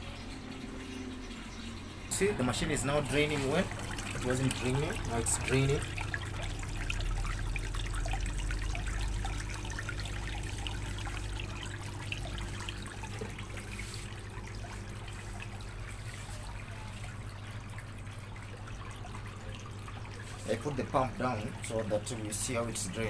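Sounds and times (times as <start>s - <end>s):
drain pump humming: 0.0s - 23.0s
water running onto floor: 2.1s - 23.0s.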